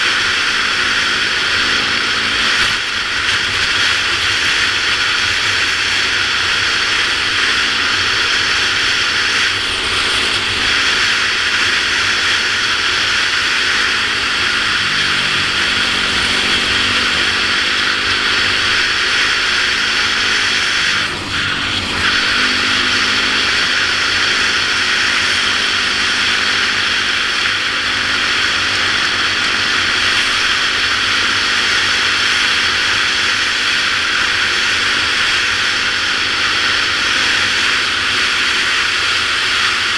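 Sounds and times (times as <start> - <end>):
dirt bike engine running: 0.0 - 39.9
heavy wind rush: 0.0 - 39.9.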